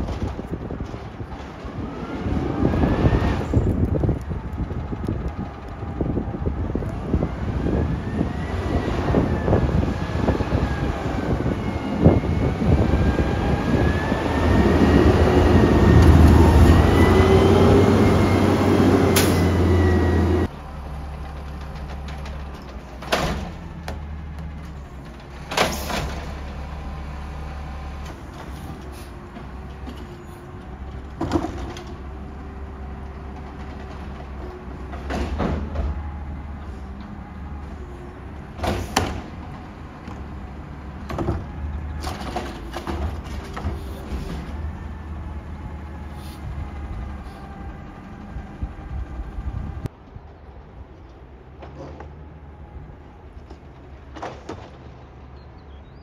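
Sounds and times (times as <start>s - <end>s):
garbage truck engine whining: 0.0s - 49.9s.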